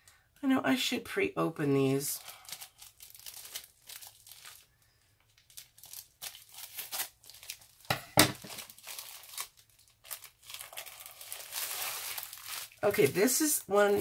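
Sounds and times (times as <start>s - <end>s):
plastic bag tearing and crinkling: 2.1s - 4.7s, 5.3s - 14.0s.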